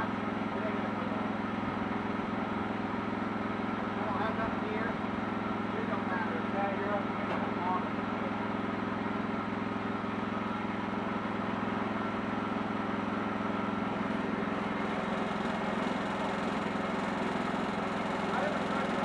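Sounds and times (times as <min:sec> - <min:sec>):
sawmill engine running: 0:00.0 - 0:19.0.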